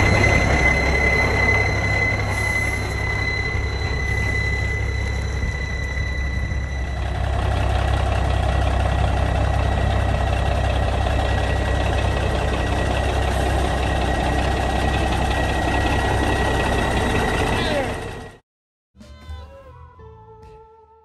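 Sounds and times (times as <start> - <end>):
thin high whine: 0.0 - 17.9
diesel truck engine drone: 0.0 - 18.4.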